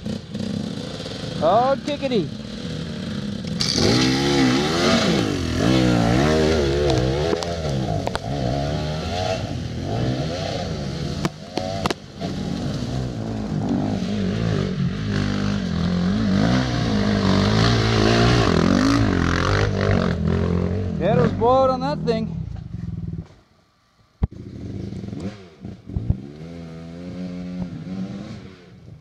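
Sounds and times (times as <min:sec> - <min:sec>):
motorcycle engine revving: 0:00.0 - 0:23.4, 0:24.2 - 0:29.0.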